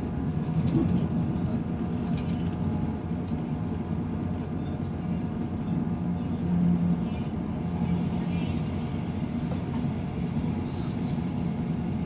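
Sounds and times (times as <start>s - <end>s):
train interior drone: 0.0s - 12.0s.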